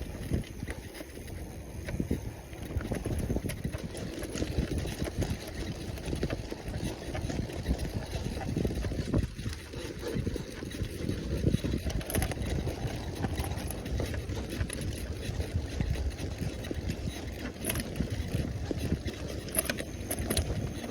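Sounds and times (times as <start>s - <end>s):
small clicks and rattles: 0.0s - 20.9s
wind buffeting microphone: 0.0s - 20.9s.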